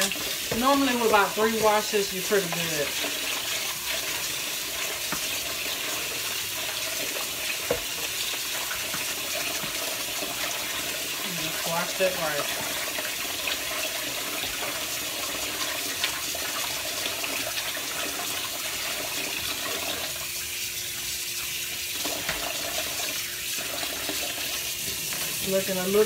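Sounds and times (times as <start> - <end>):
faucet running into plastic bowl: 0.0 - 26.0.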